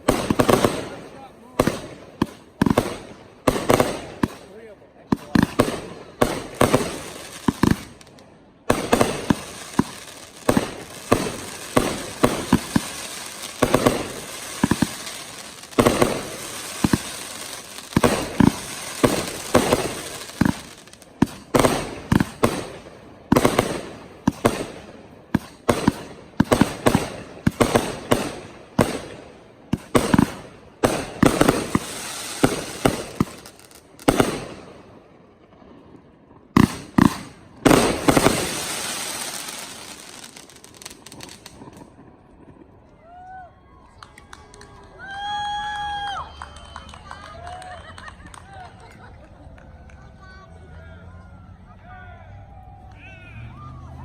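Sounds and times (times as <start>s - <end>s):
fireworks bangs: 0.0s - 43.4s
fireworks crackling: 0.0s - 50.5s.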